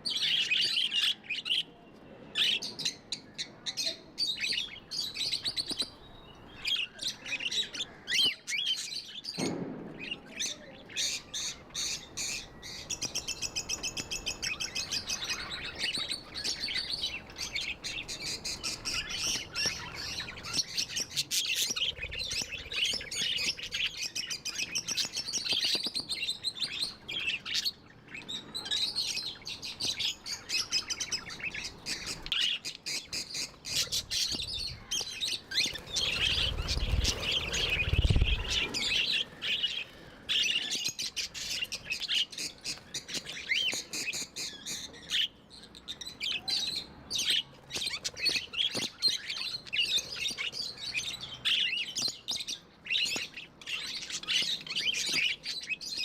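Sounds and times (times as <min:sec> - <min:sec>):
budgerigars chattering and chirping: 0:10.0 - 0:56.0.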